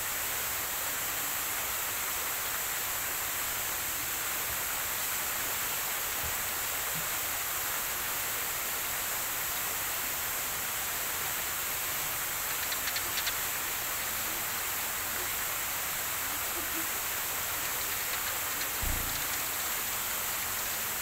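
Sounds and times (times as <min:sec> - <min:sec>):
steady outdoor ambient hiss: 0:00.0 - 0:21.0.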